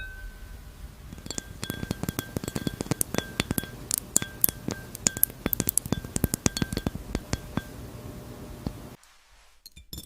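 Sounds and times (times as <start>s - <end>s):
glass clinking: 0.0s - 9.0s.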